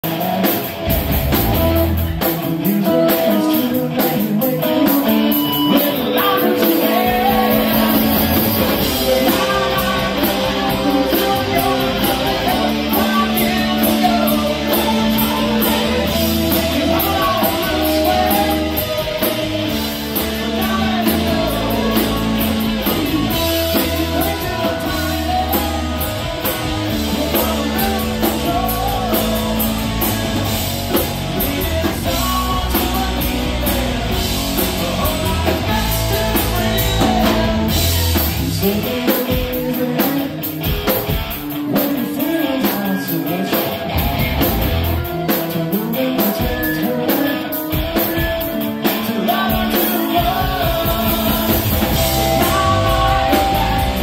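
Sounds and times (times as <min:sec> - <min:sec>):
bass: 0:00.0 - 0:54.0
drum kit: 0:00.0 - 0:54.0
electric guitars: 0:00.0 - 0:54.0
keyboard: 0:00.0 - 0:54.0.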